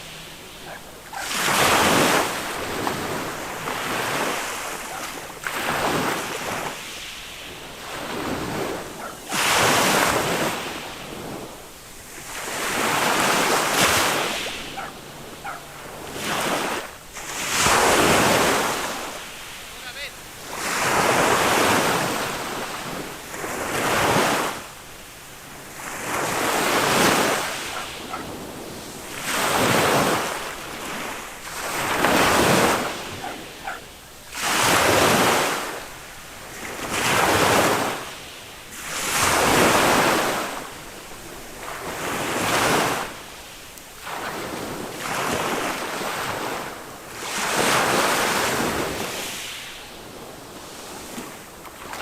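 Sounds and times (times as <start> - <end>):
small waves breaking on beach: 0.0 - 52.0.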